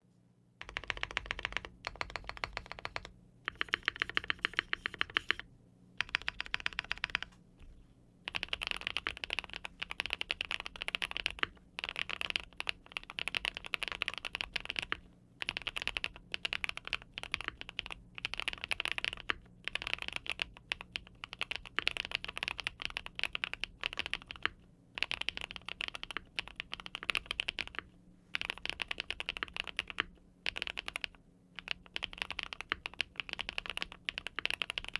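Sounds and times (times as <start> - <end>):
mechanical keyboard typing: 0.6 - 5.4, 6.0 - 7.4, 8.3 - 34.9.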